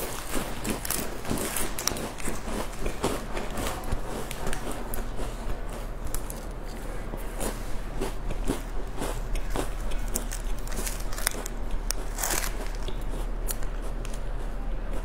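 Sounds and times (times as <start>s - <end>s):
crunching cracker: 0.0s - 15.0s.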